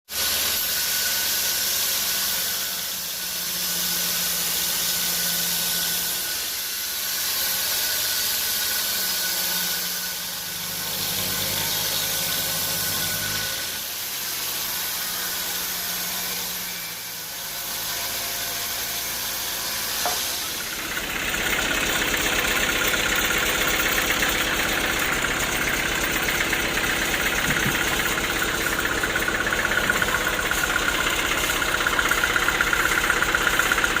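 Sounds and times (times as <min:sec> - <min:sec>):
sawmill engine running: 0:00.1 - 0:34.0.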